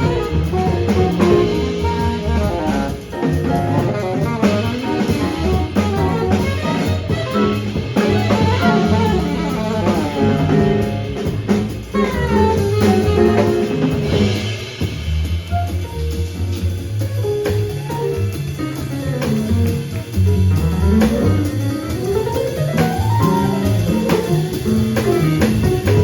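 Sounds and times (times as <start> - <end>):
drum kit: 0.0 - 26.0
jazz quartet playing: 0.0 - 26.0.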